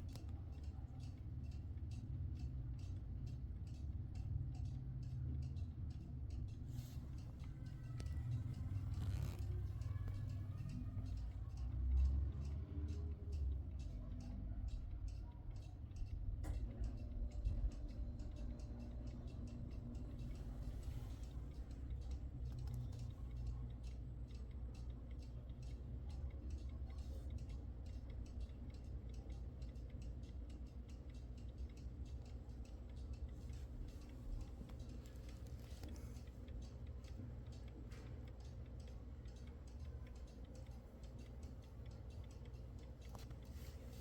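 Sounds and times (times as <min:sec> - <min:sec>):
low steady hum: 0:00.0 - 0:12.4, 0:13.2 - 0:44.0
alarm clock ticking: 0:00.0 - 0:15.3, 0:16.8 - 0:44.0.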